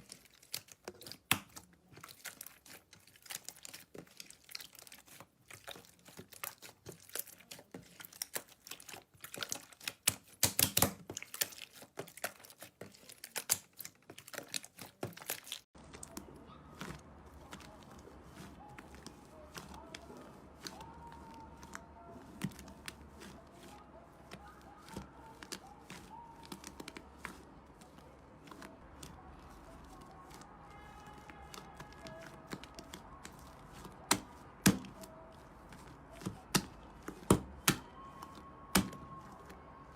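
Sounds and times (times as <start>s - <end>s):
slime crackling and popping: 0.0s - 39.6s
slime clicks and squishes: 0.0s - 39.9s.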